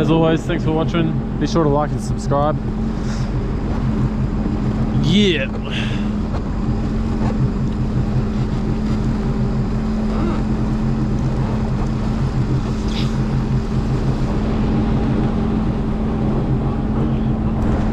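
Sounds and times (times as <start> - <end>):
watercraft engine droning hum: 0.0 - 17.9.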